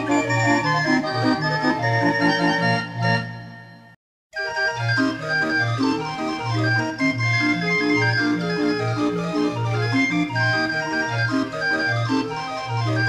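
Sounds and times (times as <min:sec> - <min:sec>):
barrel organ melody: 0:00.0 - 0:13.0.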